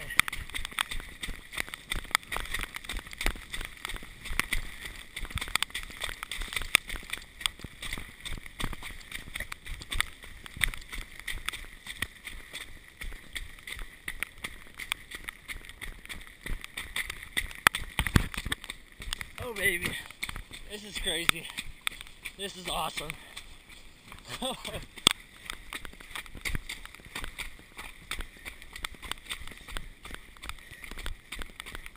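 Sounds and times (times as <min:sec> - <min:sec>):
running footsteps splashing in mud: 0:00.0 - 0:31.9.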